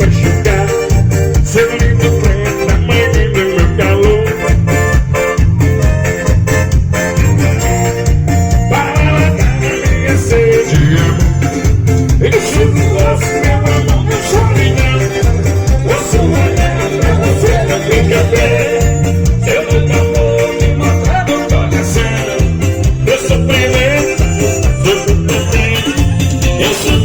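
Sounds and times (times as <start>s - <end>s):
dance music with driving bass beat: 0.0s - 27.0s.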